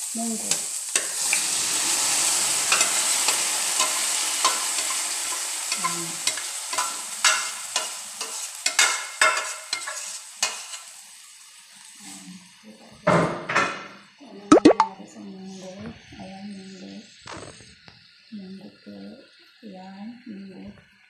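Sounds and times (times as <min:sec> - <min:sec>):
sizzling in a hot pan: 0:00.0 - 0:14.4, 0:15.0 - 0:21.0.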